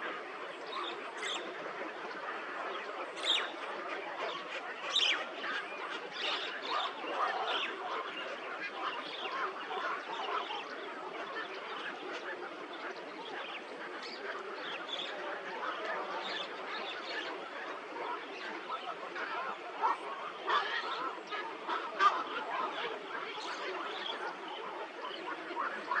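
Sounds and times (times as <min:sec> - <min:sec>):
flock of birds chattering: 0:00.0 - 0:26.0.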